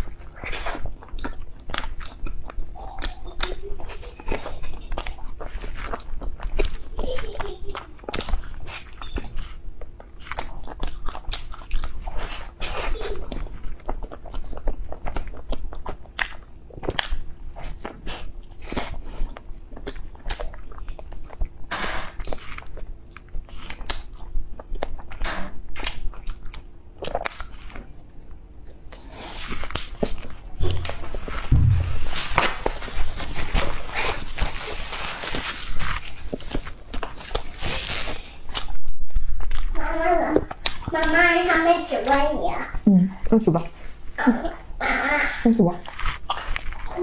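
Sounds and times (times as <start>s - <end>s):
chewing soft bread: 0.0s - 47.0s.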